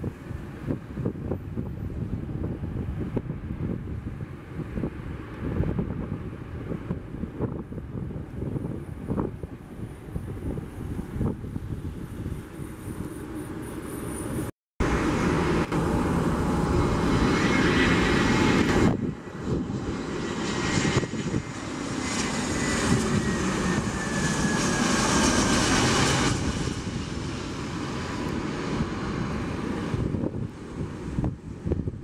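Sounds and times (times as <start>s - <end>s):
jet airliner engines overhead: 0.0s - 32.0s.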